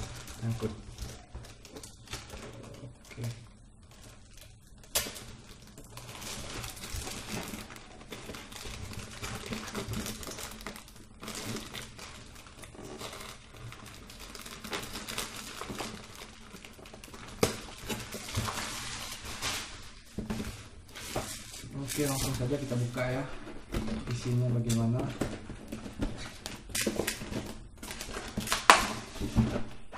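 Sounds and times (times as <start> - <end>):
plastic wrapping crinkling: 0.0 - 29.9.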